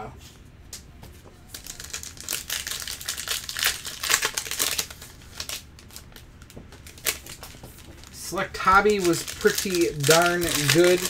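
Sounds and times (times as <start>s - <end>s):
foil wrapper crinkling and tearing: 1.4s - 11.0s.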